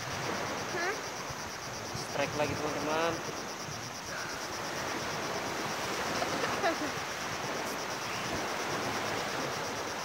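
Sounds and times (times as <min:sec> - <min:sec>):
high pulsing insect trill: 0:00.0 - 0:10.0
small waves breaking: 0:00.0 - 0:10.0.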